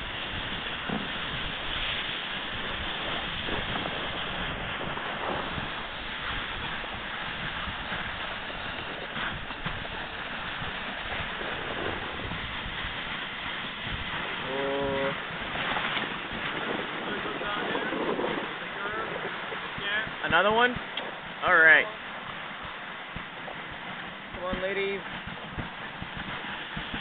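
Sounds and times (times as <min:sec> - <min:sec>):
sled runners hissing on snow: 0:00.0 - 0:27.0
wind on microphone: 0:00.0 - 0:27.0.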